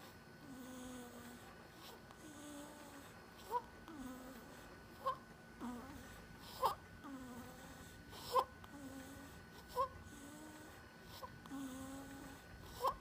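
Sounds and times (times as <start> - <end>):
infant snoring squeaky snorts: 0.4 - 13.0.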